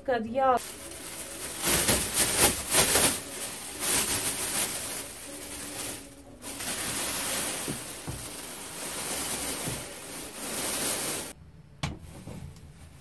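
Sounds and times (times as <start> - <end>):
foil blanket crackling and rustling: 0.6 - 11.4.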